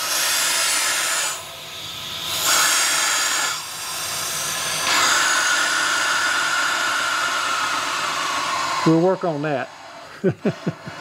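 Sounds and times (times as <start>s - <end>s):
air hissing through hose: 0.0s - 9.7s.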